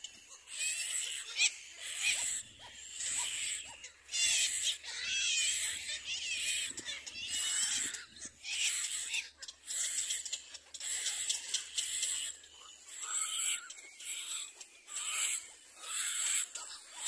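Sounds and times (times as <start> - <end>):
chicks begging calls: 0.0 - 17.0.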